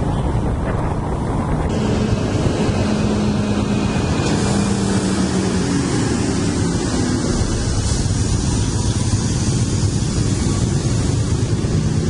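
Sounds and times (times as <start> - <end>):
tyre and road noise: 0.0 - 12.0
truck diesel engine hum: 0.1 - 12.0.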